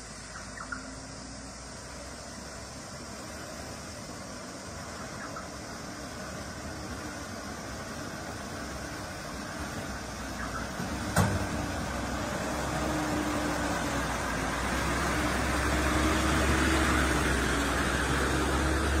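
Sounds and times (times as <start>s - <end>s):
truck engine running: 0.0s - 19.0s
water rushing and splashing: 0.0s - 19.0s.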